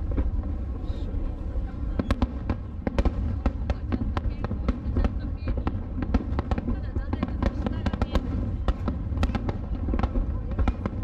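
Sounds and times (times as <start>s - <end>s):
fireworks cracks and pops: 0.0s - 11.0s.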